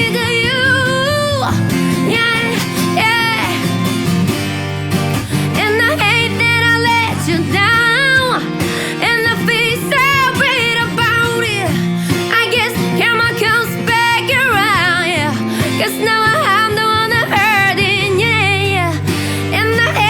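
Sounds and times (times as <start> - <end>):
woman singing wordless runs: 0.0 - 3.9, 5.2 - 20.0
guitar accompaniment: 0.0 - 20.0.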